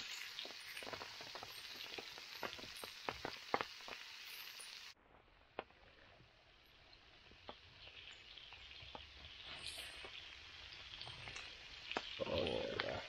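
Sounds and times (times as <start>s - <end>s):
campfire hissing: 0.0s - 5.0s, 5.6s - 13.0s
fire crackles and pops: 0.0s - 13.0s.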